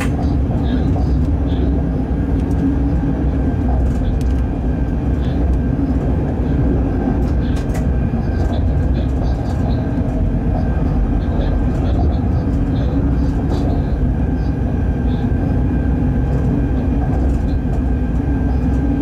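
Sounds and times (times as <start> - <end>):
locomotive rumbling: 0.0 - 19.0.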